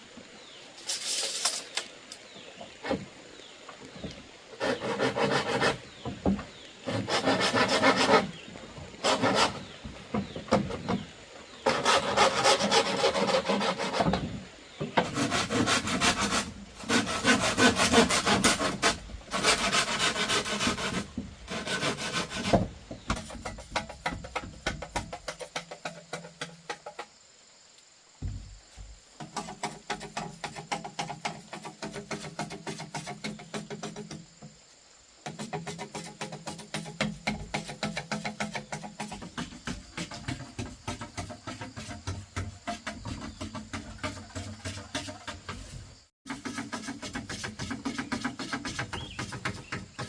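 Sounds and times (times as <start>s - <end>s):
hand saw cutting bamboo: 4.5s - 11.0s, 11.6s - 27.0s, 29.2s - 34.4s, 35.2s - 50.0s.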